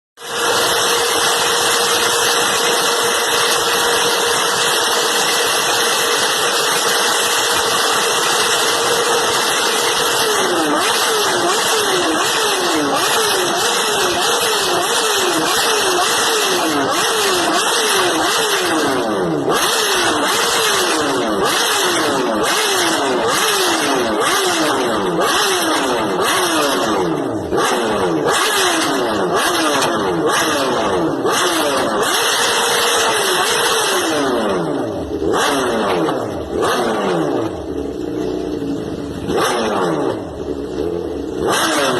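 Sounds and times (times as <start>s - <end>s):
motorcycle engine revving: 0.2s - 41.9s.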